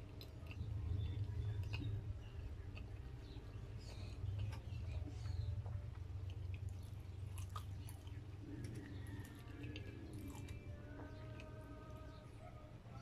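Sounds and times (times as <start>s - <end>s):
close chewing with mouth clicks: 0.0s - 12.3s
steady low hum: 0.0s - 13.0s.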